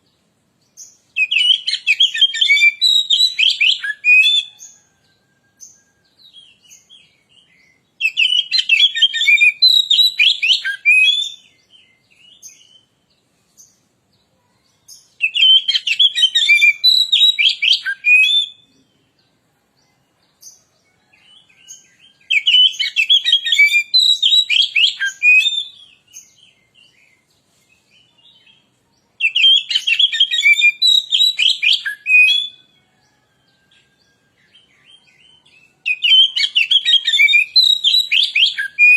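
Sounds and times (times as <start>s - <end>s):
bird singing whistles and chirps: 0.8s - 13.0s, 14.9s - 19.0s, 20.9s - 28.6s, 29.2s - 38.9s.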